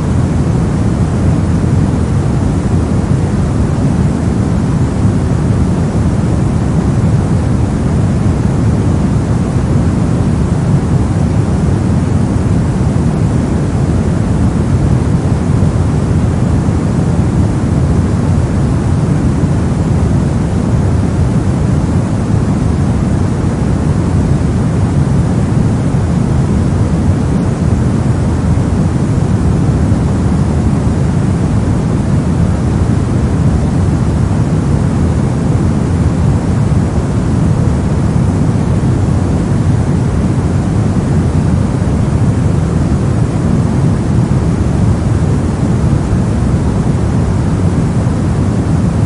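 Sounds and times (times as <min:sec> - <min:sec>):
deep steady soft noise: 0:00.0 - 0:49.0.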